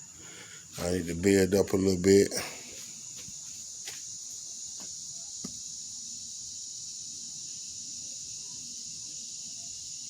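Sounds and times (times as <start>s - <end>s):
insect chorus chirring: 0.0s - 10.0s.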